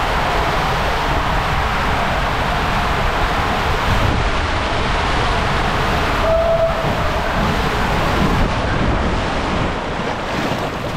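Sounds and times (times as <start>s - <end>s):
water rushing in waterslide tube: 0.0s - 10.9s.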